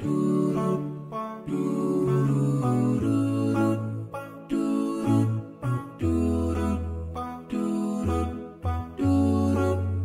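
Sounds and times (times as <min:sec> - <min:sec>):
instrumental music with bass line: 0:00.0 - 0:10.0.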